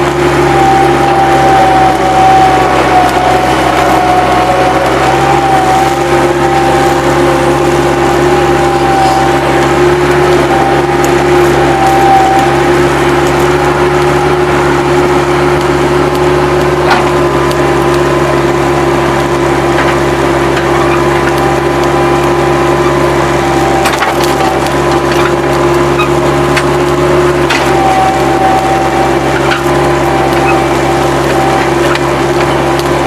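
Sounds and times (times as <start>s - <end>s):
loader engine whining under load: 0.0s - 33.0s.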